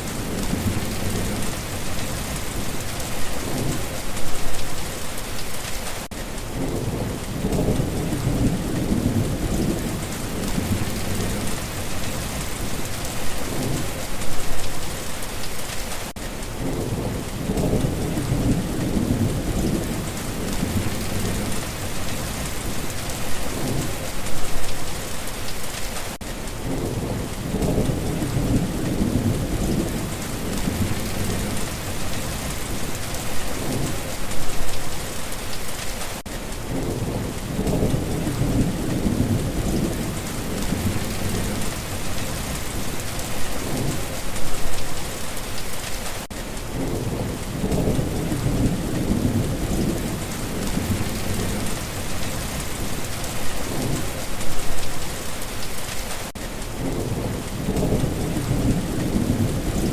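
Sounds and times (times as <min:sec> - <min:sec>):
thunder rumbling: 0:00.0 - 0:05.1, 0:06.5 - 0:14.7, 0:16.6 - 0:25.0, 0:26.6 - 0:35.0, 0:36.6 - 0:45.3, 0:46.6 - 0:55.9, 0:56.8 - 0:59.9
steady rain: 0:00.0 - 0:59.9.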